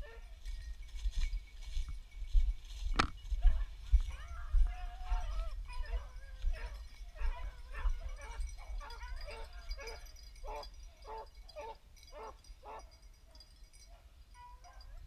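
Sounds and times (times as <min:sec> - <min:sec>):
hounds baying: 0:00.0 - 0:00.6, 0:03.4 - 0:15.0.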